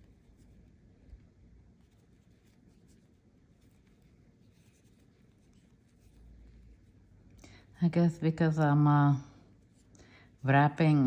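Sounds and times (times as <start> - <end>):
yarn rustling on crochet hook: 0.0 - 11.0.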